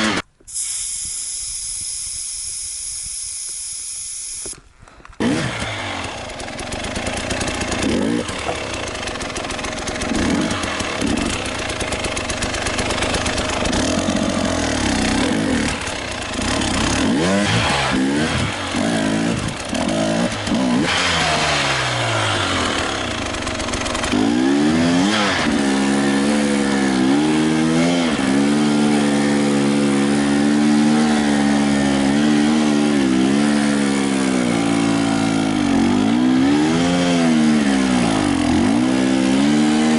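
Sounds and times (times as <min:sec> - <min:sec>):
motorcycle engine revving: 0:00.0 - 0:00.3, 0:01.1 - 0:39.9.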